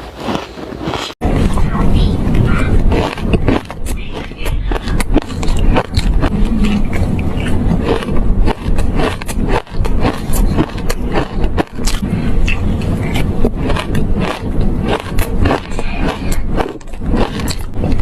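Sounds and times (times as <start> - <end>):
shaved ice being chewed: 0.1 - 1.1, 2.3 - 18.0
low rumble of mouth noise: 1.2 - 18.0.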